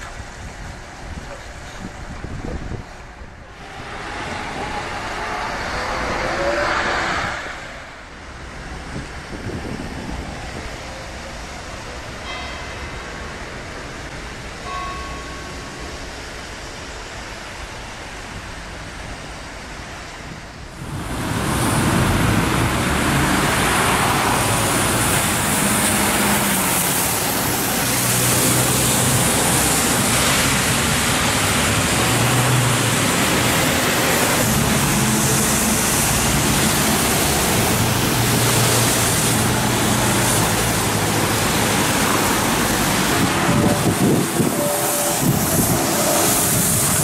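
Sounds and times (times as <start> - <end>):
tyres hissing on wet asphalt: 0.0 - 47.0
engines humming: 2.8 - 18.9, 20.6 - 47.0.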